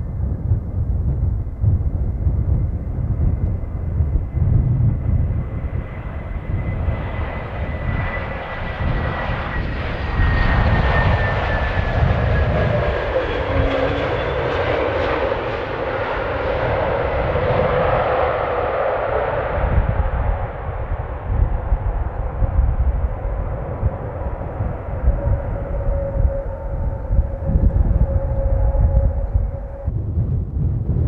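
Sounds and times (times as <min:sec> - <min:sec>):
jet airliner landing: 0:00.0 - 0:31.0
wind rumbling on microphone: 0:00.0 - 0:31.0.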